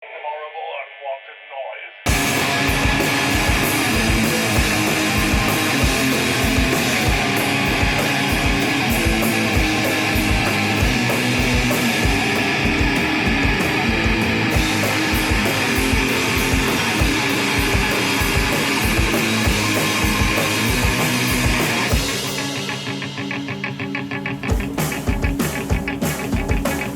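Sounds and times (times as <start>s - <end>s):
distorted guitars: 0.9s - 26.9s
fast drum beat: 2.1s - 23.4s, 24.4s - 26.9s.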